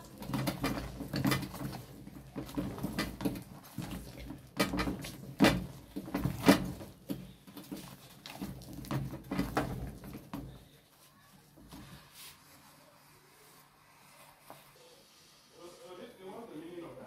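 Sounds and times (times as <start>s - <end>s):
wooden stick stirring dough in pot: 0.0s - 15.6s.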